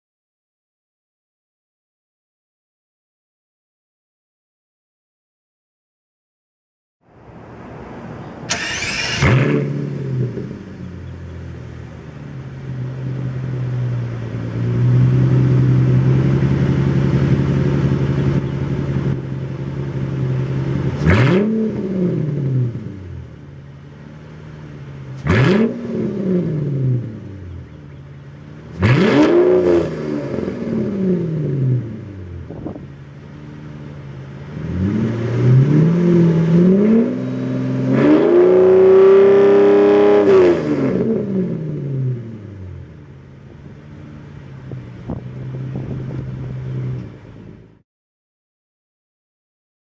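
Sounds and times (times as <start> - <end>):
car engine starting and revving: 7.1 - 47.8.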